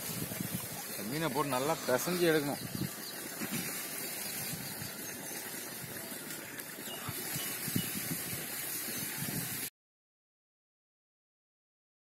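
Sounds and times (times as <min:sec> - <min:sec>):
steady outdoor hiss: 0:00.0 - 0:09.7.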